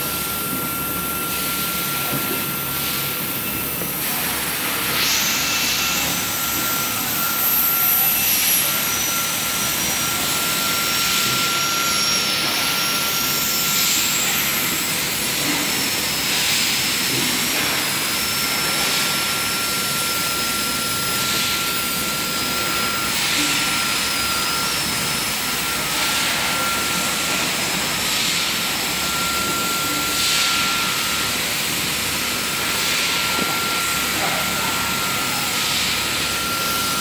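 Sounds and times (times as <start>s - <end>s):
thin steady whistle: 0.0s - 16.5s, 17.1s - 37.0s.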